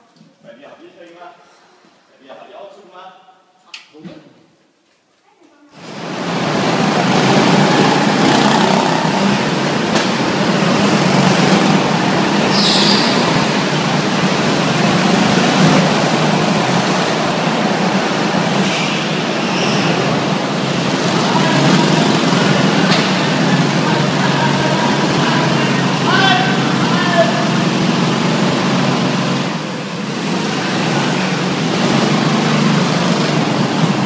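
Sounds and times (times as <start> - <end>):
kart engines droning: 5.8 - 34.0.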